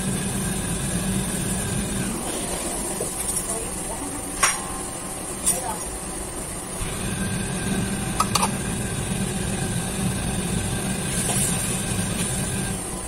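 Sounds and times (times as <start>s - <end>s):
gas burner and extractor roar: 0.0s - 13.0s.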